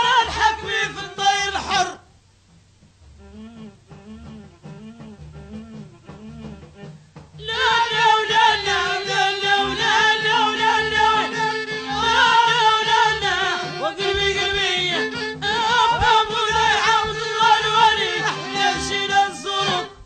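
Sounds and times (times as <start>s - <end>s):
steady beat: 2.4s - 20.0s
folk band playing: 3.2s - 20.0s.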